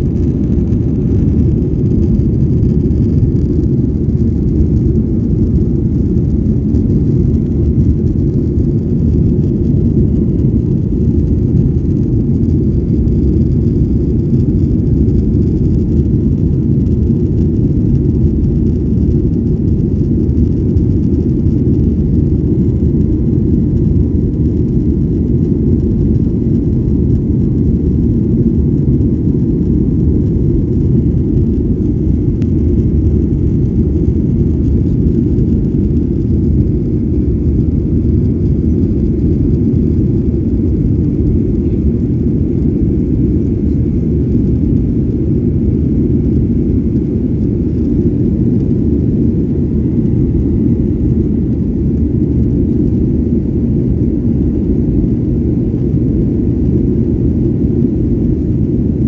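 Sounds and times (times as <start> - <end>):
airliner cabin jet engine rumble: 0.0 - 59.0.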